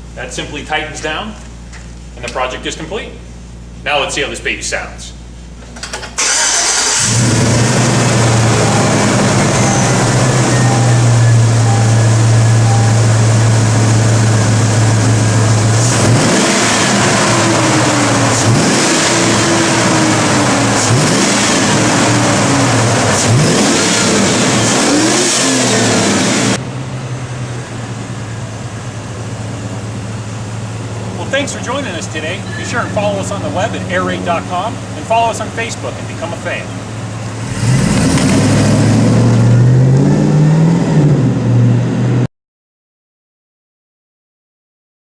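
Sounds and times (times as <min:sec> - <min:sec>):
truck engine idling and revving: 0:05.3 - 0:42.3.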